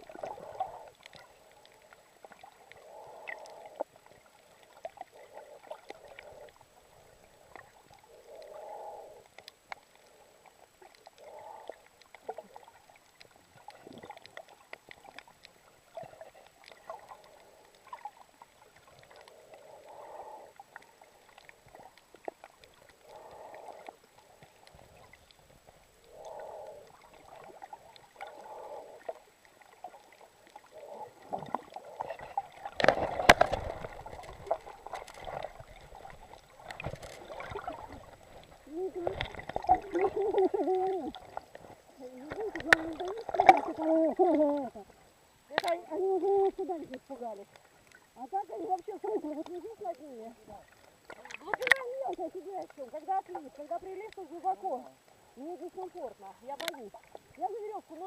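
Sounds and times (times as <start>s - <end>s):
sea water gurgling and sloshing: 0.0s - 58.0s
water rush: 9.6s - 58.0s.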